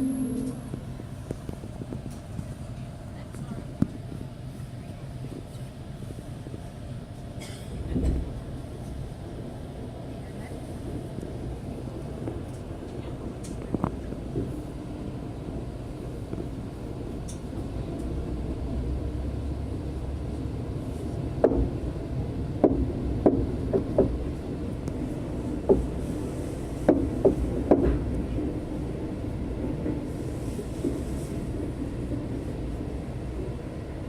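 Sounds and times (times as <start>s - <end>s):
train carriage rumble: 0.0s - 34.0s.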